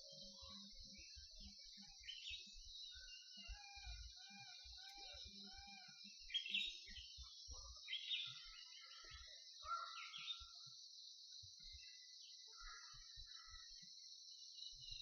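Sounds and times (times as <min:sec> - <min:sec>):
bird calls: 0:00.0 - 0:10.8, 0:11.6 - 0:13.7.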